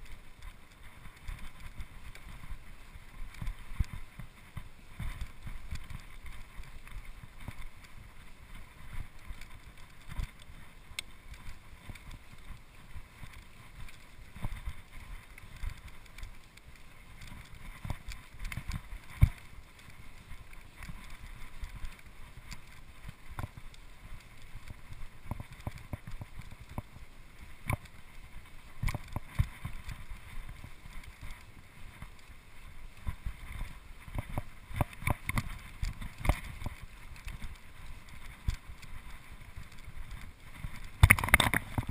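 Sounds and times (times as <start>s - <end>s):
bike tyres rumbling on dirt trail: 0.0s - 41.9s.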